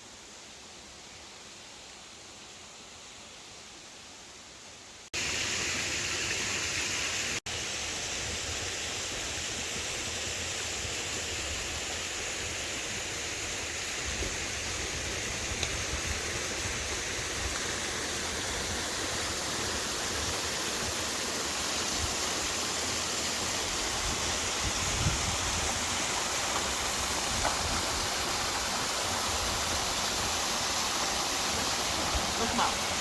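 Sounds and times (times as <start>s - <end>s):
flowing water rushing: 5.1s - 33.0s.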